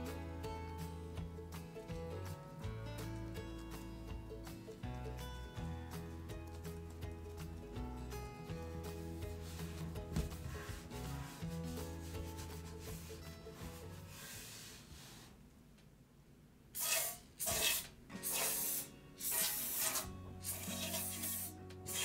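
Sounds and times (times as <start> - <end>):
background music: 0.0 - 14.7, 18.1 - 22.0.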